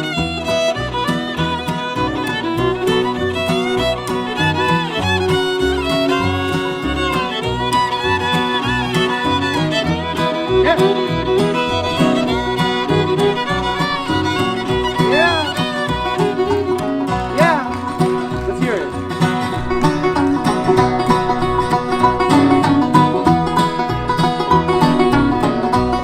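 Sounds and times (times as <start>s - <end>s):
banjo rolls: 0.0s - 26.0s
bluegrass band playing: 0.0s - 26.0s
fiddle sliding notes: 0.0s - 26.0s.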